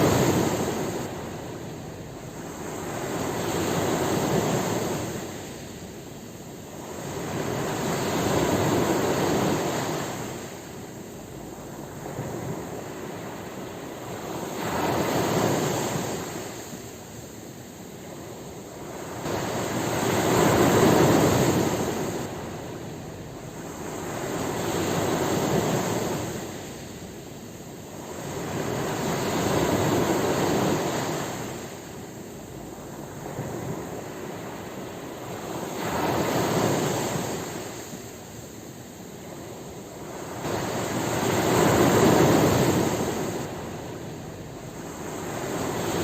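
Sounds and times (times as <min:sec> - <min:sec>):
ocean waves breaking: 0:00.0 - 0:46.0.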